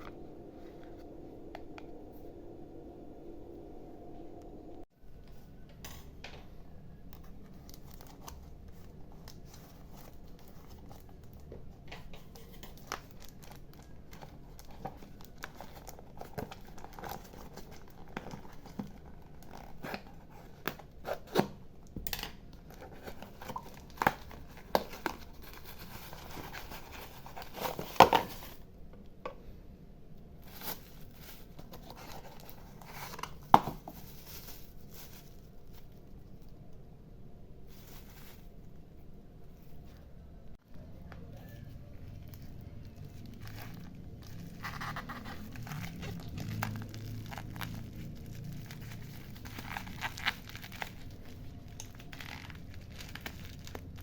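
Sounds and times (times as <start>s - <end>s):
plastic and paper crinkling: 7.1s - 28.7s, 30.4s - 36.8s, 37.6s - 40.2s, 40.8s - 54.0s.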